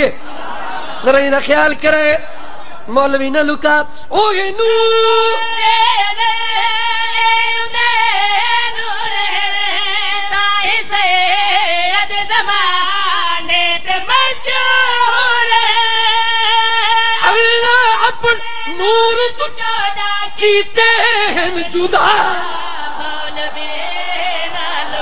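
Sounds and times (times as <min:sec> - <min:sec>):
man singing into microphone: 0:02.9 - 0:25.0.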